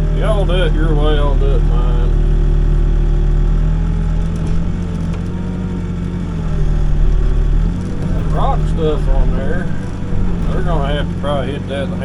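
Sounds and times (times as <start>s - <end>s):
backhoe diesel engine running: 0.0s - 12.0s.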